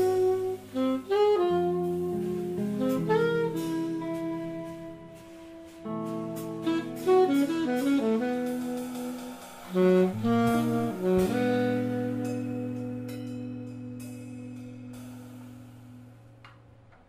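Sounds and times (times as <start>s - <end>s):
alto saxophone: 0.0s - 16.5s
guitar: 0.0s - 16.6s
drums: 0.0s - 17.0s.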